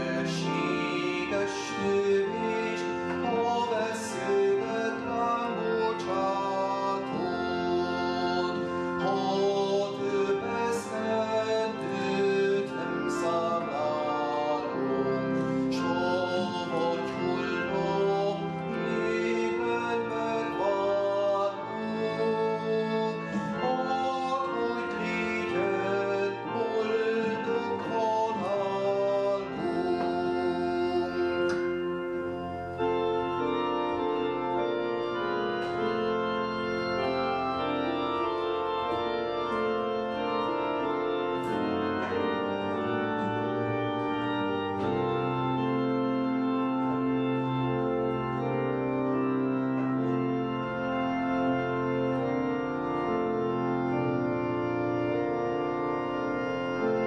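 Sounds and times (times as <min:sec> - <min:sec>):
organ playing a hymn: 0:00.0 - 0:57.0.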